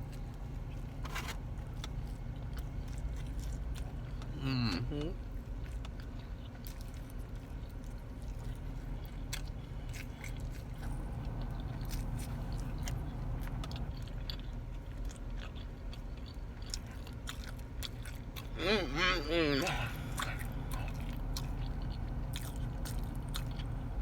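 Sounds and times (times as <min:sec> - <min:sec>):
person chewing food: 0:00.0 - 0:24.0
steady low hum: 0:00.0 - 0:24.0.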